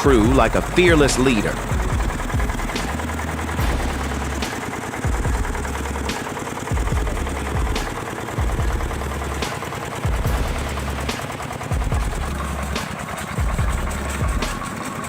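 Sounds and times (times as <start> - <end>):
sharp engine knock: 0.0 - 15.0
tractor engine chugging: 0.0 - 15.0.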